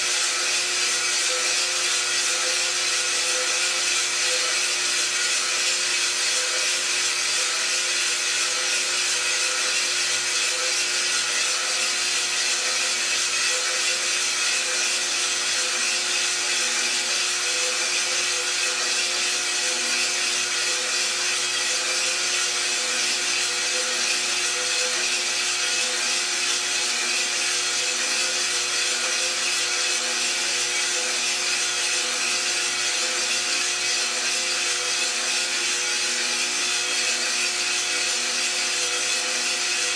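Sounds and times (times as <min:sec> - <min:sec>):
coffee beans tumbling: 0:00.0 - 0:39.9
roaster motor hum: 0:00.0 - 0:39.9.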